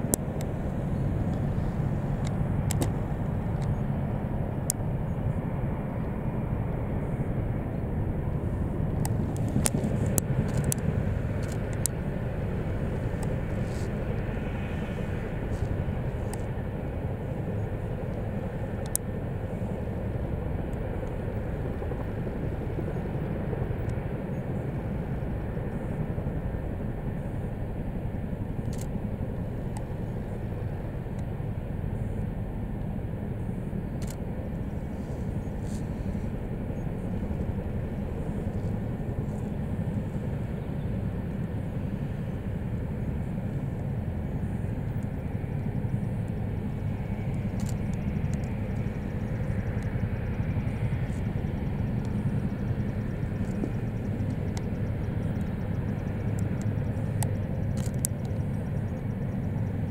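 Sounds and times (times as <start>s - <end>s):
helicopter rotors and turbines: 0.0s - 59.9s.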